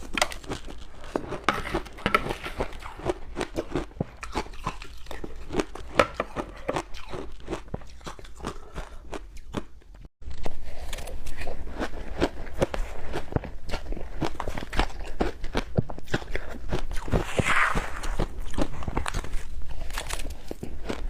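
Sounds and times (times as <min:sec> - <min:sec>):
ice being chewed: 0:00.0 - 0:21.0.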